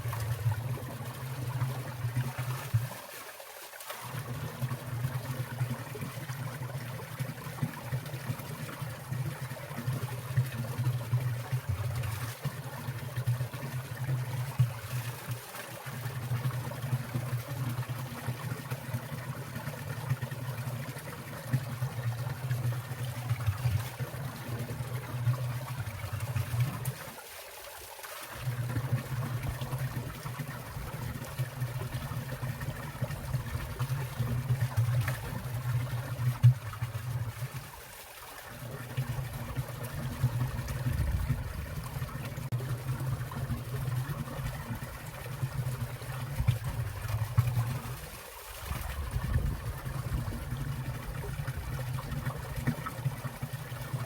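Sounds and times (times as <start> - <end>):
stream water splashing: 0.0 - 54.0.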